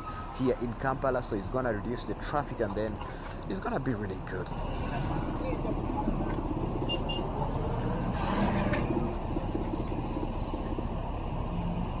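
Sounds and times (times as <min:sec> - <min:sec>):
busy street traffic: 0:00.0 - 0:12.0.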